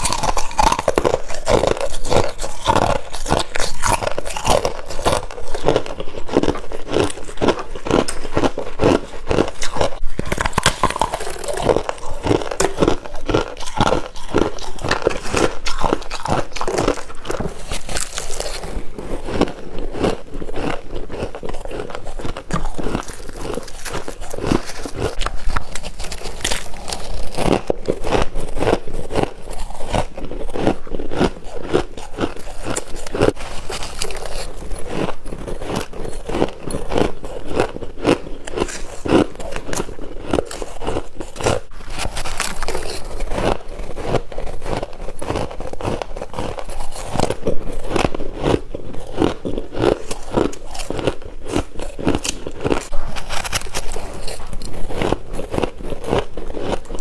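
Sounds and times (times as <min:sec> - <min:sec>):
frost being chewed: 0:00.0 - 0:57.0.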